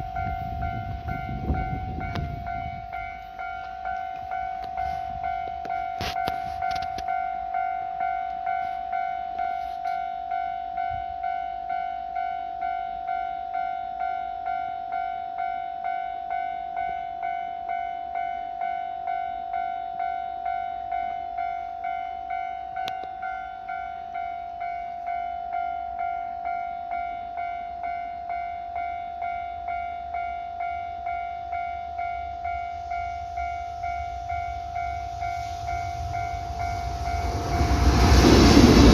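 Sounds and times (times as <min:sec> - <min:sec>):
level-crossing warning bell ringing: 0:00.0 - 0:38.9
low rumble of approaching train: 0:00.0 - 0:38.9.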